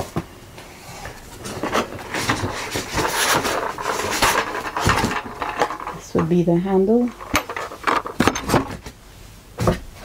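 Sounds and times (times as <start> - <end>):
cardboard rustling and scraping: 0.8 - 9.0.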